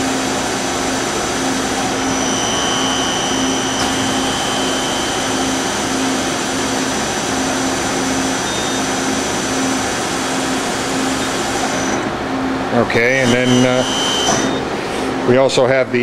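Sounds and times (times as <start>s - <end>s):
lathe spindle whirring: 0.0s - 15.2s.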